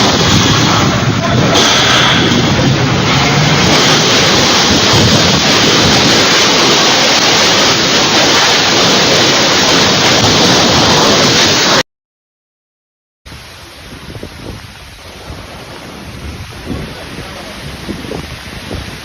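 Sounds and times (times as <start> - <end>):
storm wind buffeting microphone: 0.0 - 11.8, 13.3 - 19.0.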